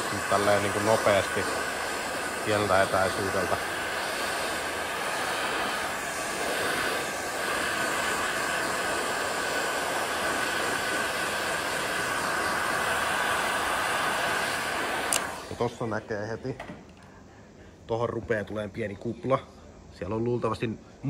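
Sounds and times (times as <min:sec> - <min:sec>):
heat gun blowing with whine: 0:00.0 - 0:17.0.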